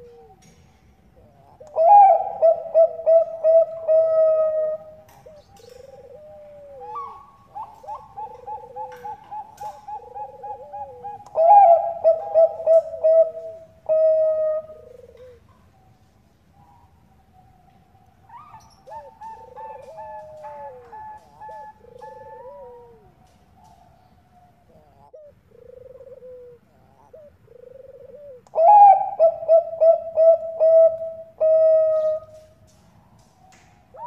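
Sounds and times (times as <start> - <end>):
dove cooing: 0.0 - 33.3.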